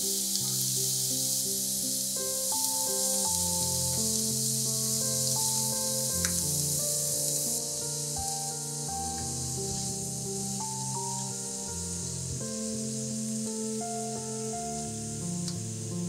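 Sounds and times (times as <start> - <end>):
calm background music: 0.0 - 16.0
vegetables sizzling in a wok: 0.0 - 16.0.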